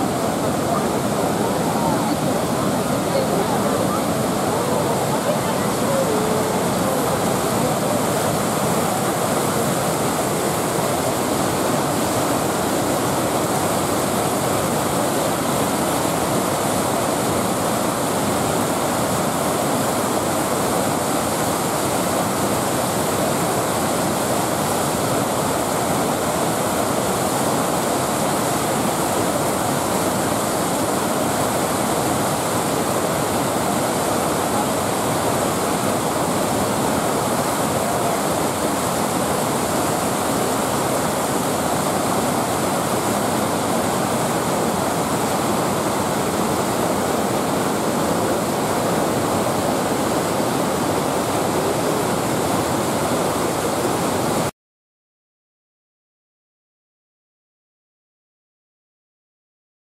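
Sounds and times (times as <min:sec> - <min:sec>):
waterfall rushing: 0:00.0 - 0:54.5.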